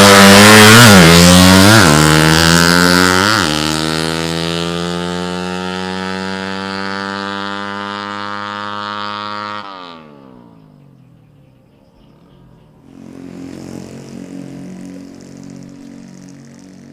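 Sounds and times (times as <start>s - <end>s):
motorcycle engine revving: 0.0s - 11.4s, 12.0s - 16.9s.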